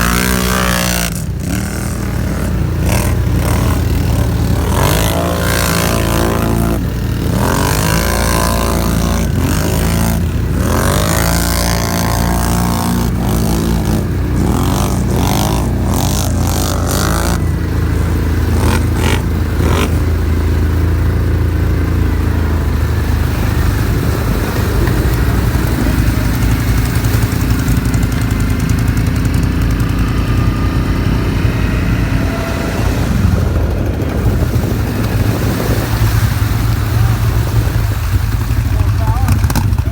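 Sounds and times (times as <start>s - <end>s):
atv engine revving: 0.0s - 39.9s
broad rushing noise: 0.0s - 39.9s.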